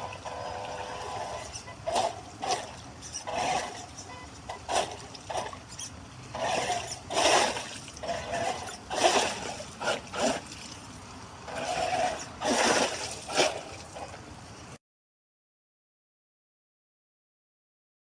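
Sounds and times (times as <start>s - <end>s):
water splashing: 0.0s - 14.8s.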